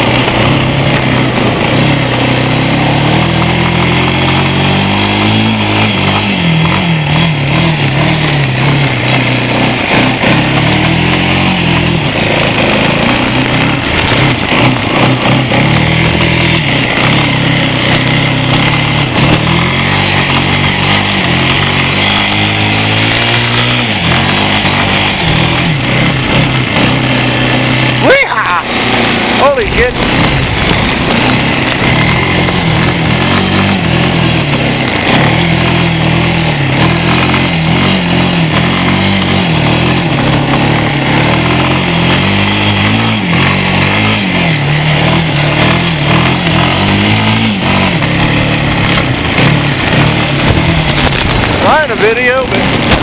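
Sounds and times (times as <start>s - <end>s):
wind noise on microphone: 0.0s - 19.9s, 29.0s - 43.3s, 44.2s - 53.0s
atv engine revving: 0.0s - 53.0s.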